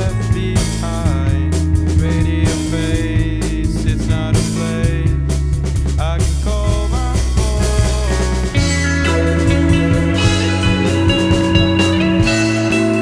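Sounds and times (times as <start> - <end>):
bass line: 0.0 - 13.0
drum kit: 0.0 - 13.0
electric guitars: 0.0 - 13.0
sliding lead guitar line: 0.0 - 13.0.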